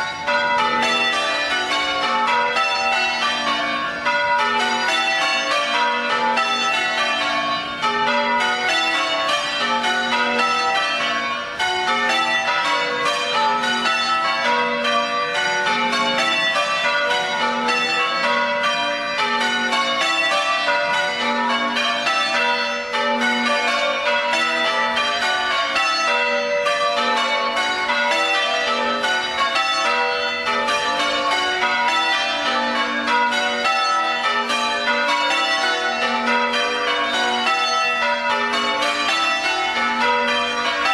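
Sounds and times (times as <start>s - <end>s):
church bells change ringing: 0.0s - 40.9s.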